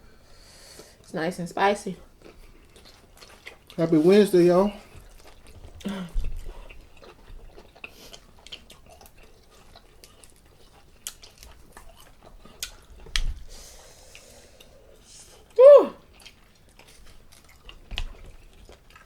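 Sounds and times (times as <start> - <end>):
person chewing: 2.1 - 19.0.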